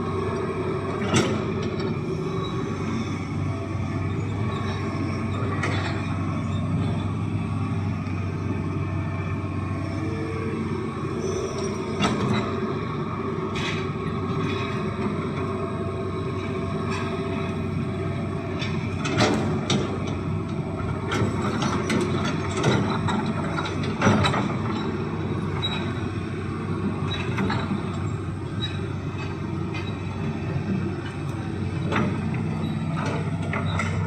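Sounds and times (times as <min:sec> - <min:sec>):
excavator engine running: 0:00.0 - 0:34.0.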